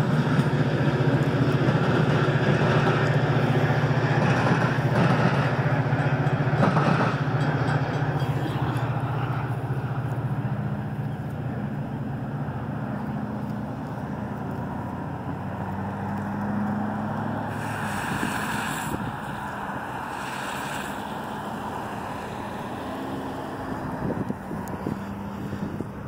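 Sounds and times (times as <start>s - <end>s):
hiss of passing tyres: 0.0s - 6.0s, 8.2s - 26.0s
road traffic: 0.0s - 26.0s
train rumble: 0.0s - 26.0s.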